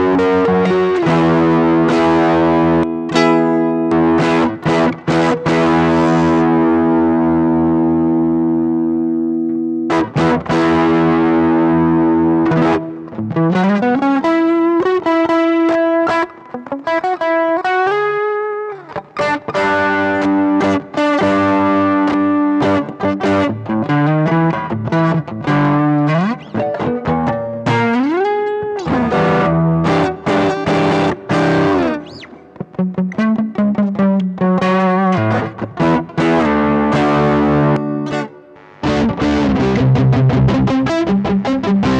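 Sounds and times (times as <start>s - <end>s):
distorted electric guitar: 0.0s - 41.9s.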